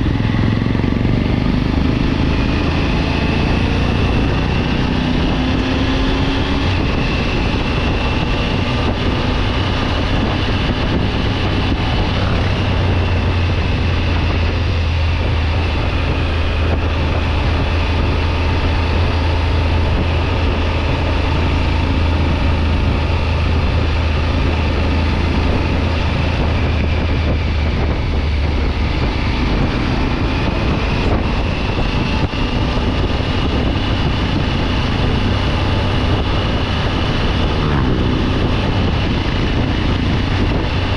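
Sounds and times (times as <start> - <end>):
motorcycle engine humming: 0.0 - 40.9
wind noise on microphone: 0.0 - 40.9.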